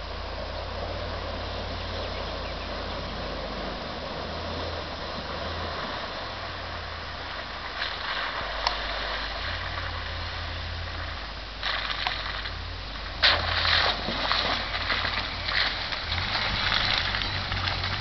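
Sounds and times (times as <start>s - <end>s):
car engine running: 0.0s - 18.0s
mud and water splashing: 0.0s - 18.0s.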